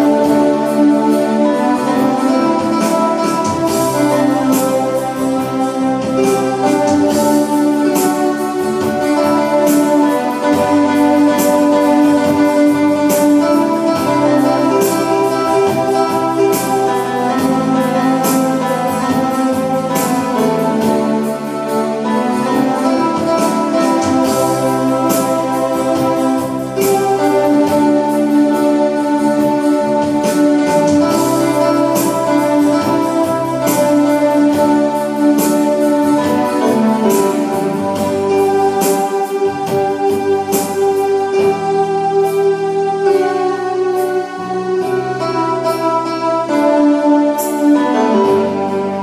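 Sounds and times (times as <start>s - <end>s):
electronic keyboard playing chords: 0.0s - 49.0s
steady beat: 0.0s - 49.0s.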